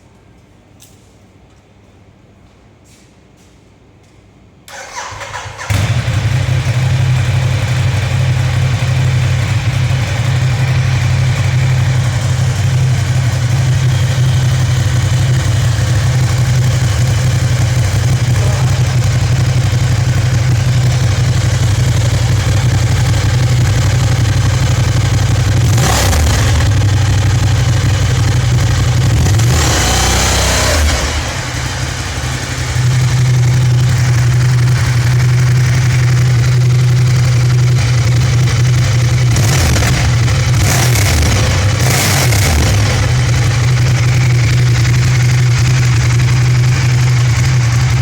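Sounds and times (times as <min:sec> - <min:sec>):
motorcycle engine idling: 0:04.7 - 0:48.0.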